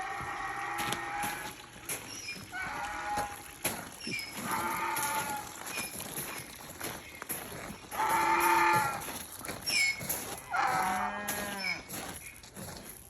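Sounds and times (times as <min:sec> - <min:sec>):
farm animals calling: 0:00.0 - 0:12.6.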